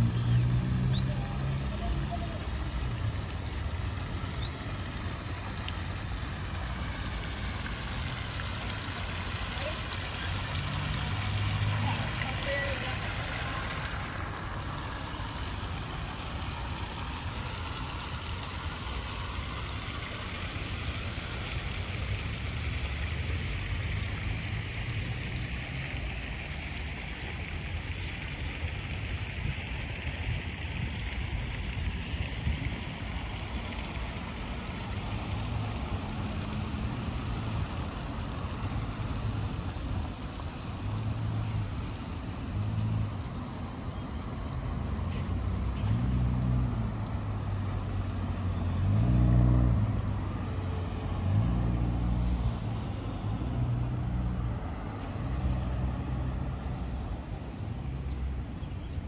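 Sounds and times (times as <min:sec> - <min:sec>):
outdoor street ambience: 0:00.0 - 0:59.0.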